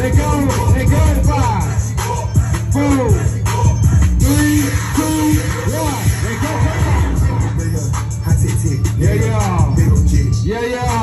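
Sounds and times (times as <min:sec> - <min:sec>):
rapping over a beat: 0:00.0 - 0:11.0.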